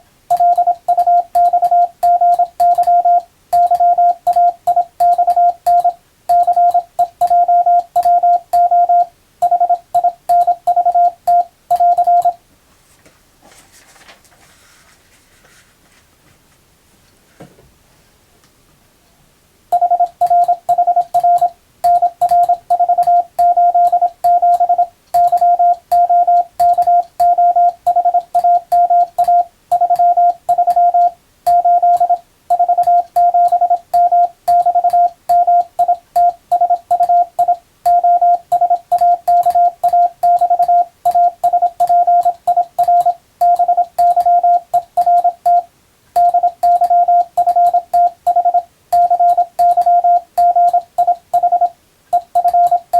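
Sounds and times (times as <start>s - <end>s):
morse code tone: 0.3s - 12.4s, 19.7s - 52.9s.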